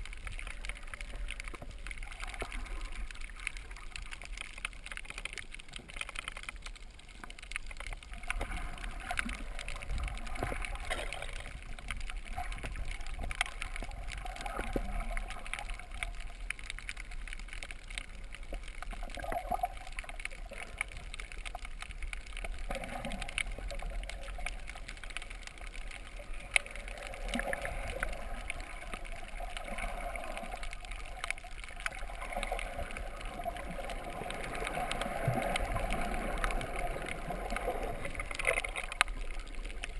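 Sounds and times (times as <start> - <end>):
faint clicks and crackles: 0.0 - 39.9
water sloshing and gurgling: 0.0 - 39.9.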